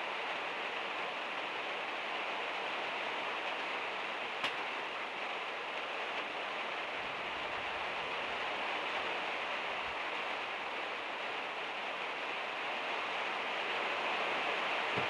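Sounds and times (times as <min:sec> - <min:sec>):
heavy rain on metal roof: 0:00.0 - 0:15.0.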